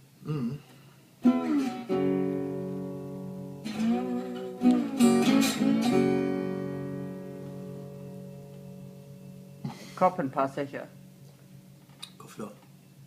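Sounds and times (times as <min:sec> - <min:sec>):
acoustic guitar strumming: 0:01.2 - 0:13.0.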